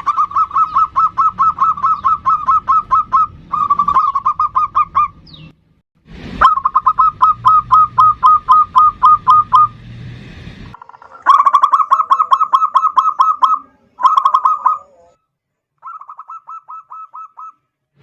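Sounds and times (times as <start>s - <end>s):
dove cooing: 0.0s - 5.4s, 6.4s - 9.7s, 10.8s - 15.2s, 15.8s - 17.6s.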